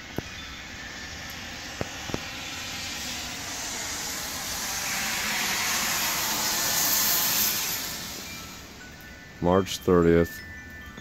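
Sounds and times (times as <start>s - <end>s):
car tyres hissing on wet street: 0.0s - 10.2s
steady background hiss: 0.0s - 11.0s.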